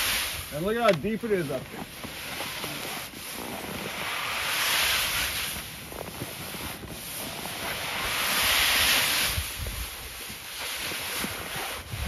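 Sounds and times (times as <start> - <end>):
snow hissing down plastic chute: 0.0 - 12.0.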